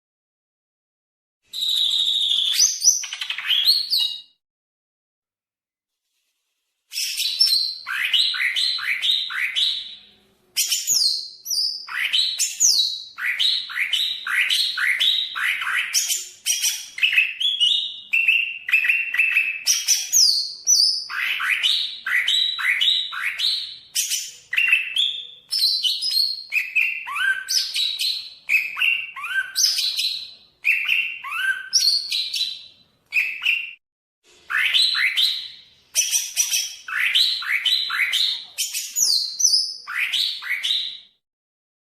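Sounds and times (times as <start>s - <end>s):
bird singing: 1.5s - 4.4s, 6.9s - 33.8s, 34.5s - 41.2s.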